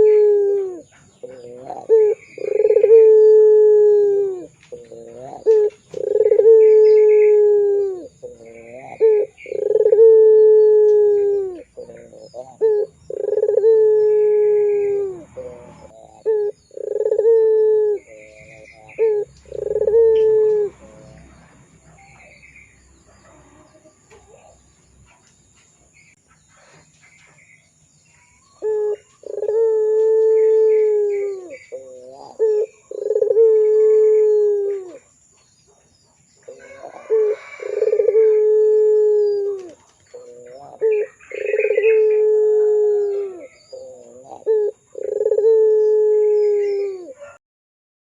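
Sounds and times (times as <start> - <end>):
dove cooing: 0.0 - 24.6, 28.5 - 35.2, 36.4 - 47.4.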